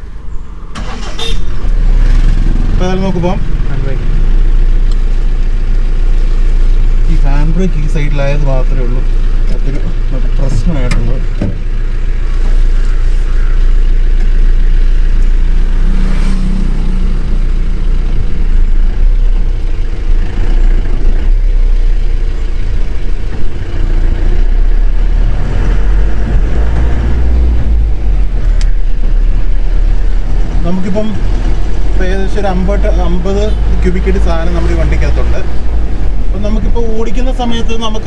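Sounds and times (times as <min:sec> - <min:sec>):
diesel engine drone from inside cab: 0:00.0 - 0:38.0.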